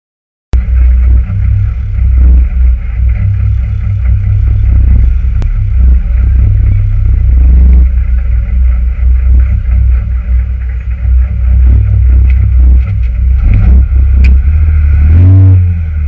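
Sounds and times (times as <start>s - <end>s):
car engine idling deep rumble: 0.5s - 16.0s.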